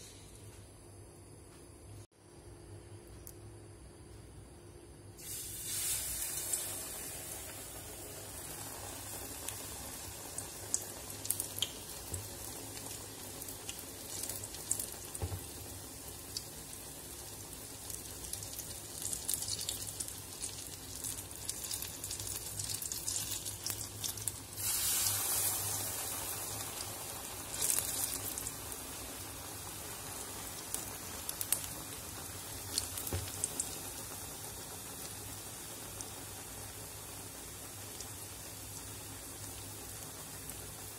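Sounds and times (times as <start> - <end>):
fritters sizzling in hot oil: 5.2 - 40.9.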